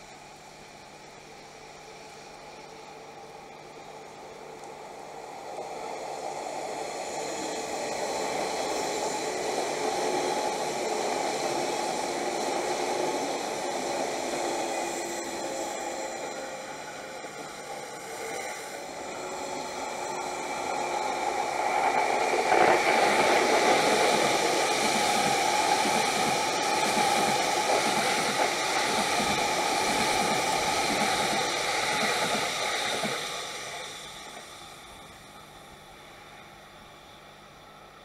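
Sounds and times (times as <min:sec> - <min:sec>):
electric trains passing: 0:00.0 - 0:38.0.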